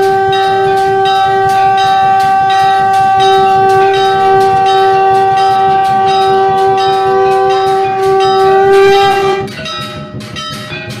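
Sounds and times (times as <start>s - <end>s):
conch shell blown: 0.0s - 9.7s
temple bell ringing rapidly: 0.0s - 11.0s.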